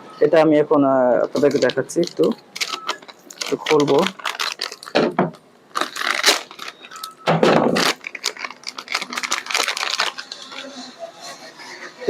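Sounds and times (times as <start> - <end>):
plastic wrapping crinkling: 1.1 - 11.8.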